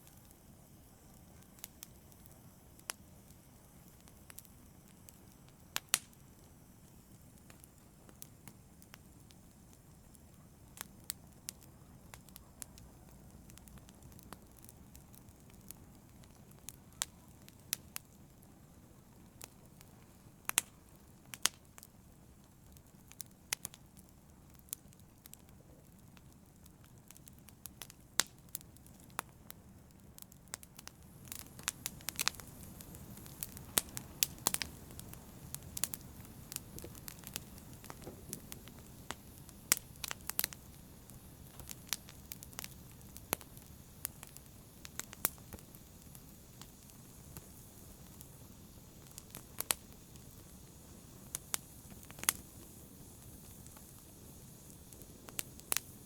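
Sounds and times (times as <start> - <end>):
fire burning rumble: 0.0 - 56.0
fire popping and snapping: 0.0 - 56.0.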